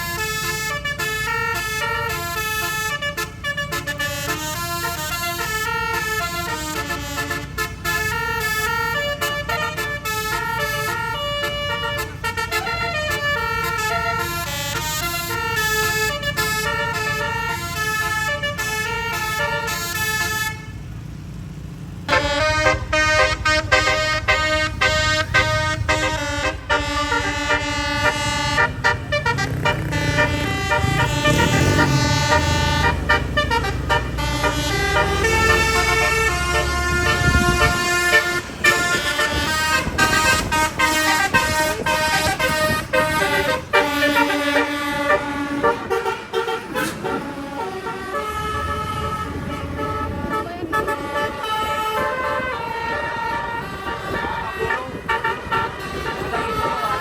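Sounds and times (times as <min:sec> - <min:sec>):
bus horn melody: 0:00.0 - 0:21.1, 0:22.1 - 0:57.0
vehicle rumble: 0:00.0 - 0:57.0.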